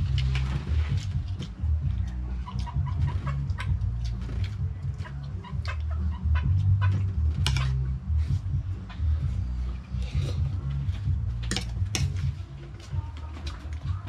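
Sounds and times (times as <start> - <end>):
loud low rumble: 0.0 - 13.2
chickens clucking: 0.0 - 14.0.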